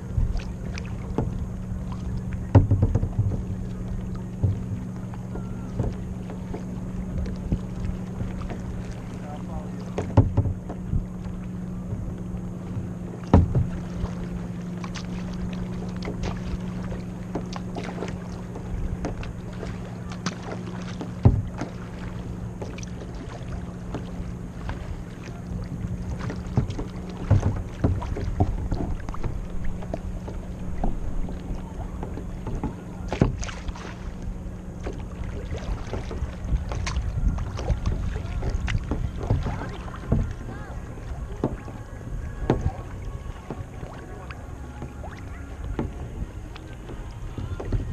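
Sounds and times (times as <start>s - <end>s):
paddle knocking against hull: 0.0s - 47.9s
paddle splashing water: 0.0s - 47.9s
steady low hum: 0.0s - 47.9s.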